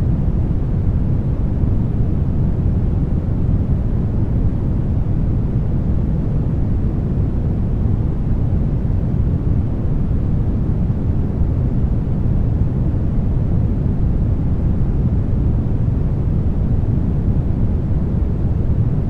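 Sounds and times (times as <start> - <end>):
brown noise rumbling hiss: 0.0 - 19.0.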